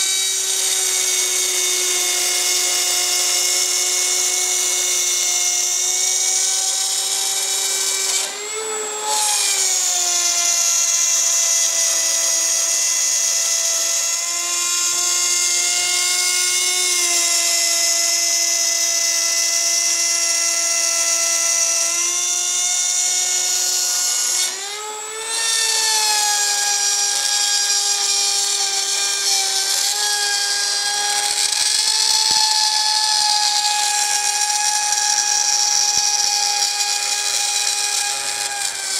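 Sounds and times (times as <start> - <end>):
router spindle high-pitched whine: 0.0 - 38.9.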